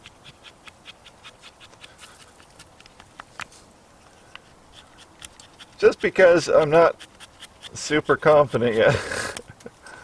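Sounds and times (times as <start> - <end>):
knife scraping wood: 0.0 - 9.5.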